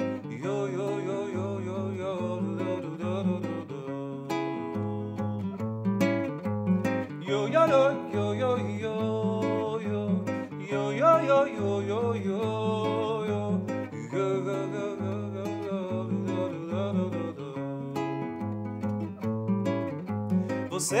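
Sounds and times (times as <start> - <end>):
person singing wordlessly: 0.0 - 5.6, 7.1 - 18.4, 20.6 - 21.0
classical guitar strummed: 0.0 - 21.0.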